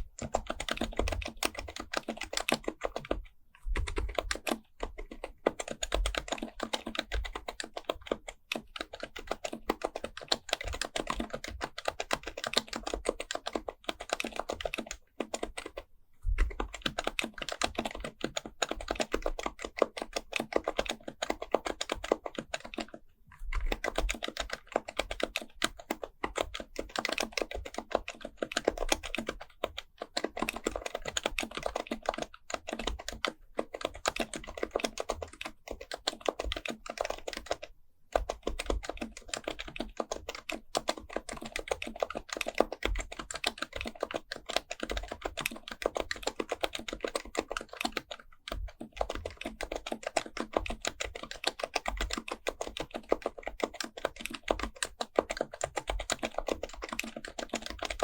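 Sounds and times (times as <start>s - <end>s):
fast keyboard typing: 0.0s - 58.0s.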